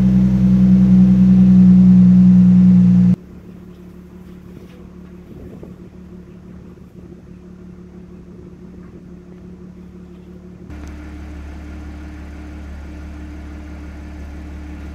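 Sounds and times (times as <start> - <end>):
car exhaust drone idling: 0.0 - 14.9.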